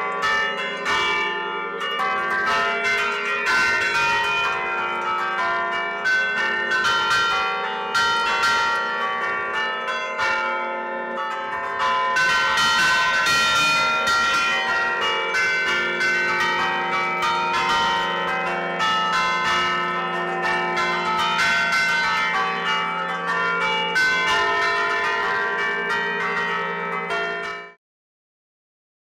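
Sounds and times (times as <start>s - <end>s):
church bells ringing: 0.0s - 27.8s.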